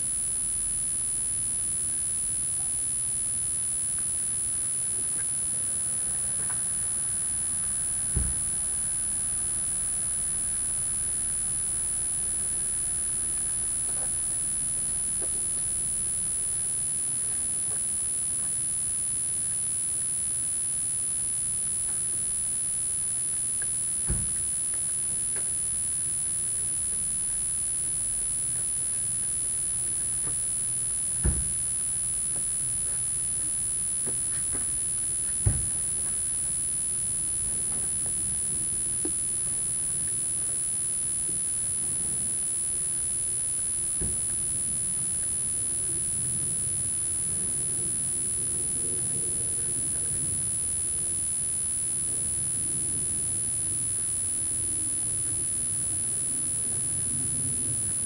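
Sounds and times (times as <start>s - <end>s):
high constant whine: 0.0s - 58.0s.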